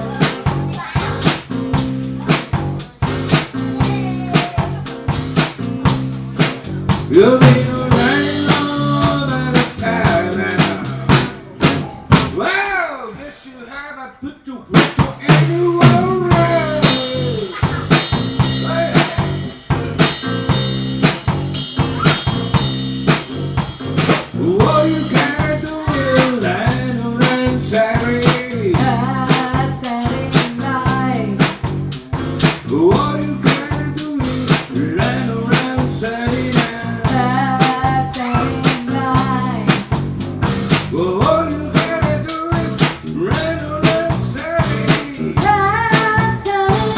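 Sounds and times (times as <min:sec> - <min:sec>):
bass guitar: 0:00.0 - 0:12.5, 0:14.8 - 0:46.9
blues-rock band playing: 0:00.0 - 0:12.5, 0:14.8 - 0:46.9
drum hits: 0:00.0 - 0:12.5, 0:14.8 - 0:46.9.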